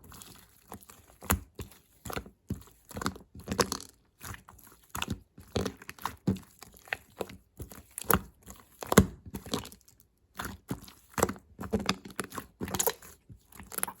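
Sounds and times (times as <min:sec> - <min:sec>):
slime squished by hand: 0:00.0 - 0:14.0.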